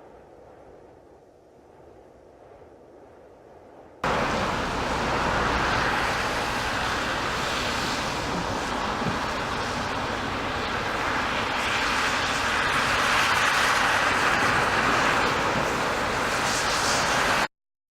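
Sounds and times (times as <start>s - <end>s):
strong gusty wind rushing: 0.0s - 17.5s.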